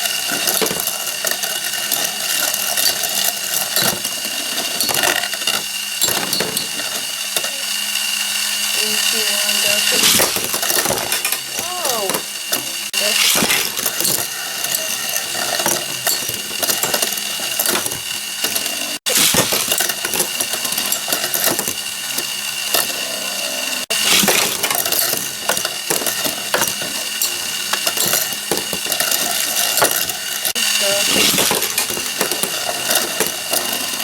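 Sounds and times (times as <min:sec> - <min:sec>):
tops rattling and clicking: 0:00.0 - 0:23.0, 0:23.9 - 0:34.0
spinning tops high whine: 0:00.0 - 0:34.0.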